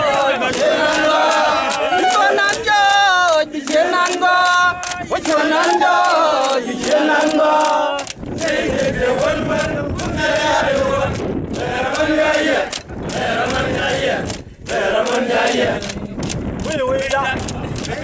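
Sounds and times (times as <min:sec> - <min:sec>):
men singing a chant together: 0:00.0 - 0:18.0.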